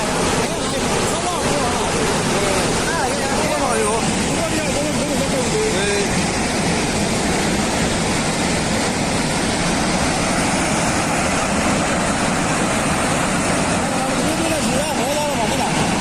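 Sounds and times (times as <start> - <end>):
floodwater roaring: 0.0 - 16.0.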